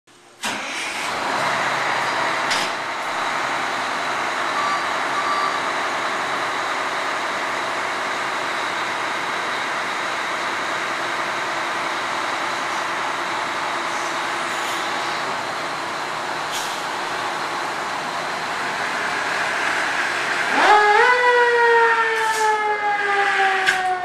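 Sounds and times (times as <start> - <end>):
road wind and engine noise: 0.4 - 24.0.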